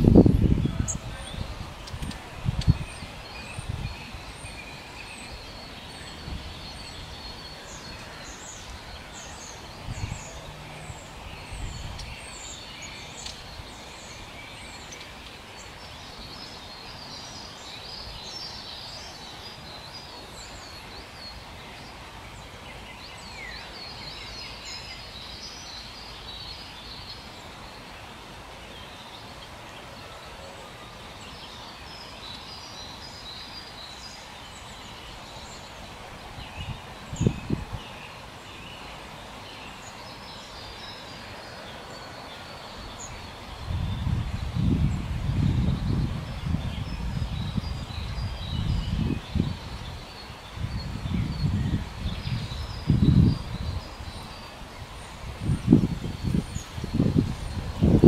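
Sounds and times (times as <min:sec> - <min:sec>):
background hiss: 0:00.0 - 0:58.0
small birds chirping and singing: 0:00.0 - 0:58.0.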